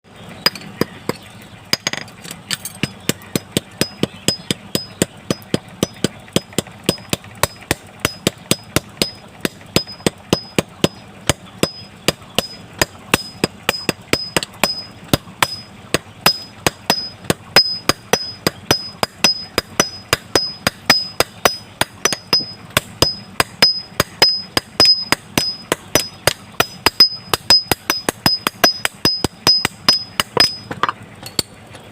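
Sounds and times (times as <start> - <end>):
hammer striking metal on anvil: 0.4 - 31.5.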